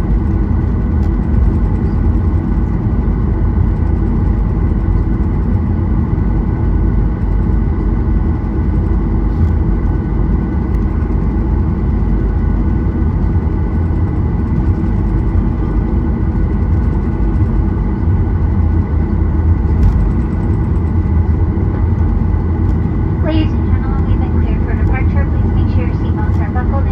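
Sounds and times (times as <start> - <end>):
airplane cabin rumble: 0.0 - 26.9
thin steady whine: 0.0 - 26.9.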